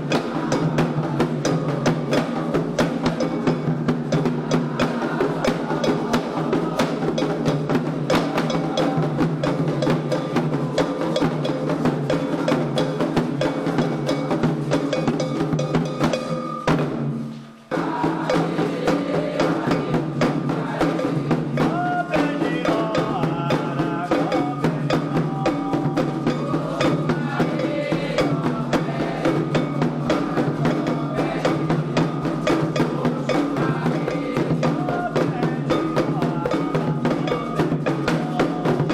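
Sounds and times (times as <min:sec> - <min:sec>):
singing voices: 0:00.0 - 0:16.6, 0:17.6 - 0:38.9
hand drums and percussion: 0:00.0 - 0:38.9.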